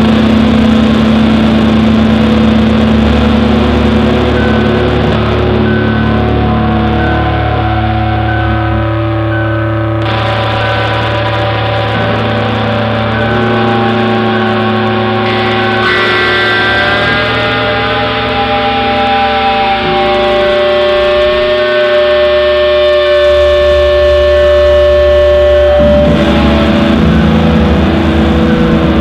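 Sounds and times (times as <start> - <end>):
sustained drone music: 0.0 - 29.0.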